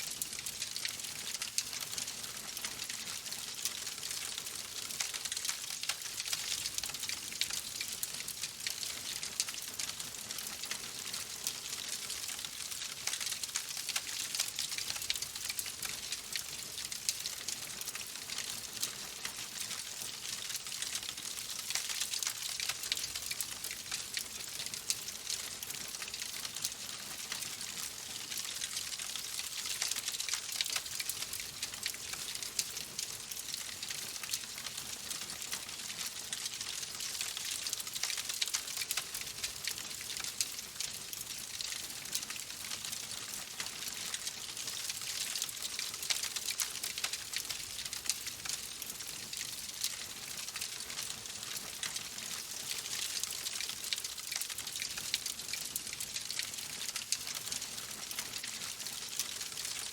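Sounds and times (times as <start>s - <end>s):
wood fire crackling: 0.1s - 59.9s.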